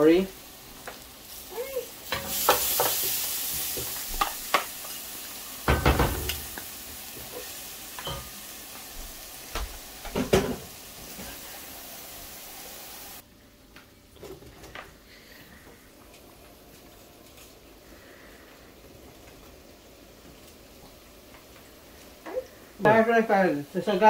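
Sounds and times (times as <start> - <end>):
oil sizzling: 0.0 - 13.2, 14.6 - 24.0.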